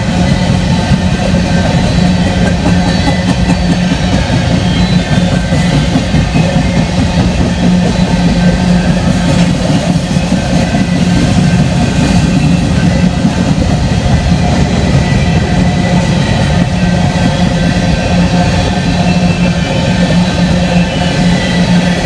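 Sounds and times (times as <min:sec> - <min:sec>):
freight train rumbling on rails: 0:00.0 - 0:22.0.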